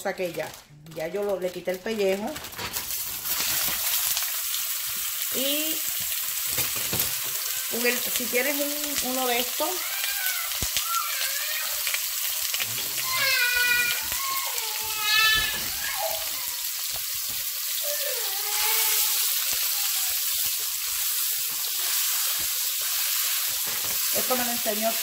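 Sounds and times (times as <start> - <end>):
sausage sizzling in hot oil: 2.5 - 25.0.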